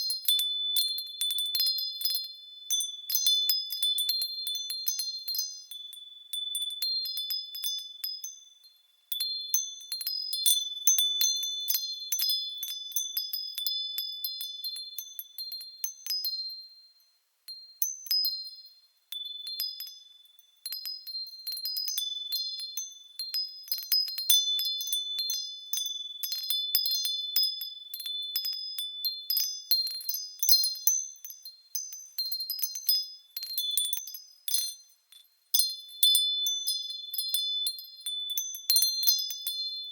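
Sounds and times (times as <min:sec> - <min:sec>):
wind chime tinkling: 0:00.0 - 0:39.9.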